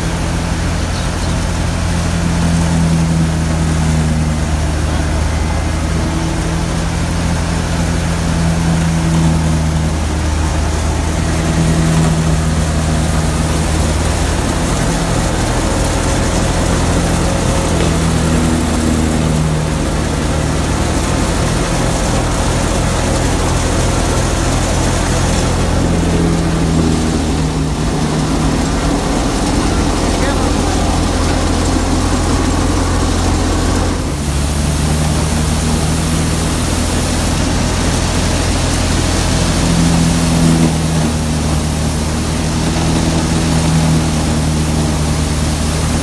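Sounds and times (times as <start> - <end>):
diesel tractor engine: 0.0 - 46.0
thresher noise: 3.5 - 46.0.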